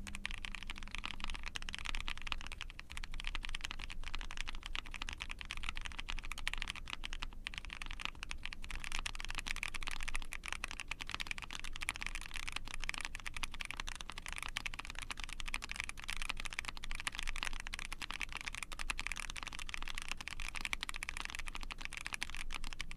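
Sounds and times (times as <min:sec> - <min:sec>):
mechanical keyboard typing: 0:00.0 - 0:22.9.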